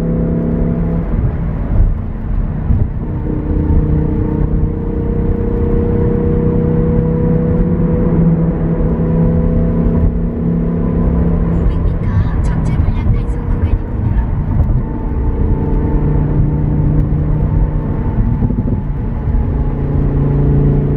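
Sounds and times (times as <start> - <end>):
car engine and exhaust: 0.0 - 20.9
road noise on wet road: 0.0 - 20.9.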